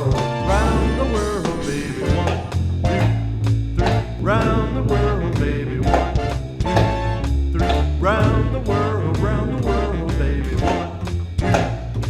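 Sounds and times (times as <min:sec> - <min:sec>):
drums: 0:00.0 - 0:12.0
sustained bass notes: 0:00.0 - 0:12.0.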